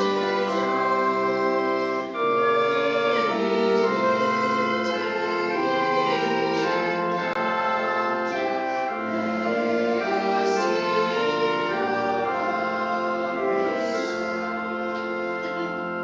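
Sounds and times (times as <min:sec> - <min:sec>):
church music in sustained chords: 0:00.0 - 0:16.0.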